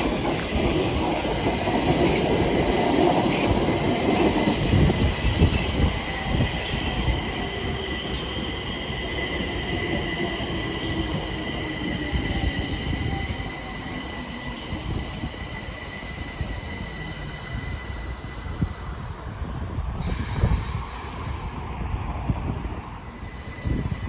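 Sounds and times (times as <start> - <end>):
low train rumble: 0.0 - 24.0
train wheels squealing: 0.0 - 24.0.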